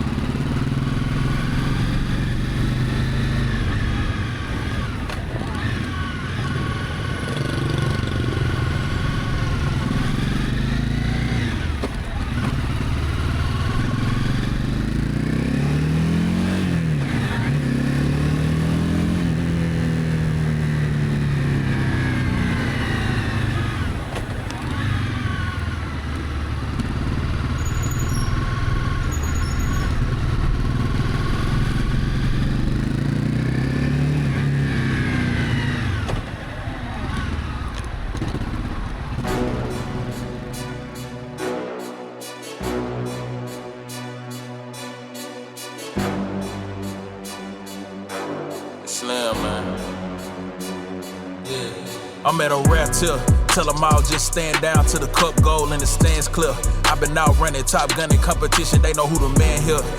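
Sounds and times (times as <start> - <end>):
motorcycle engine accelerating: 0.0 - 41.3, 52.6 - 59.9.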